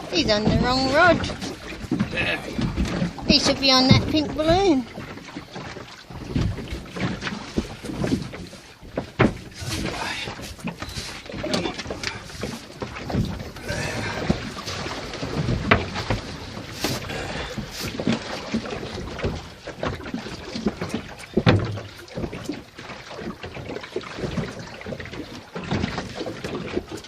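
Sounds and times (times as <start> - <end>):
knocks and thumps on boat deck: 0.0 - 27.0
water noise: 0.0 - 27.0
wind: 0.0 - 27.0.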